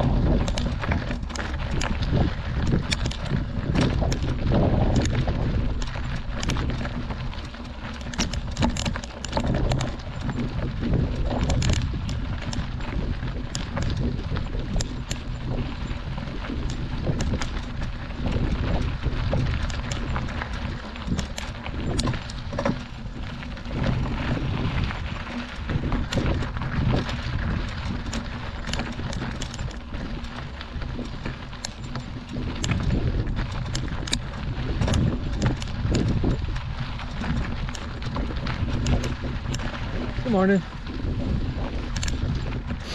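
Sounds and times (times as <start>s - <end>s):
bike clicks and rattles: 0.0s - 42.9s
bike tyres crunching over gravel: 0.0s - 42.9s
wind buffeting microphone: 0.0s - 42.9s.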